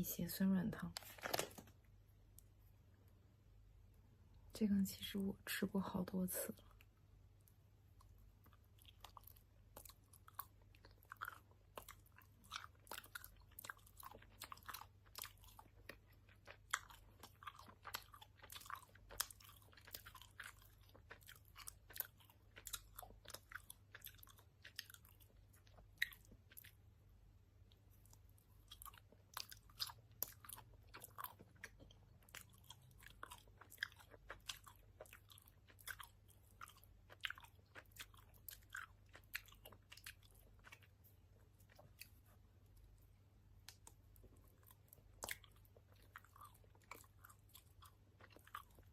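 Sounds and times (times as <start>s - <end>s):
chewing with lip-smacking: 6.6s - 26.9s, 27.7s - 43.0s, 43.6s - 48.9s.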